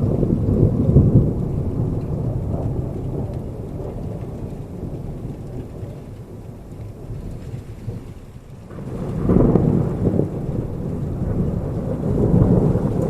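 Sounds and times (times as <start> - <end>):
rolling thunder: 0.0 - 13.0
steady rainfall: 0.0 - 13.0.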